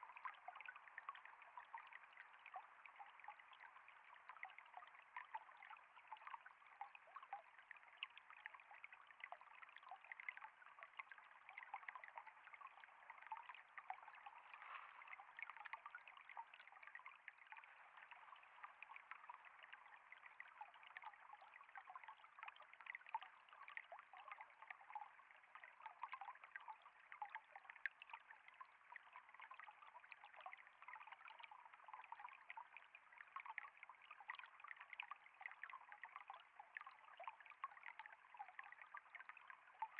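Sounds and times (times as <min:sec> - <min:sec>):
patter of small splashes: 0:00.0 - 0:39.9
water trickling and flowing: 0:00.0 - 0:39.9.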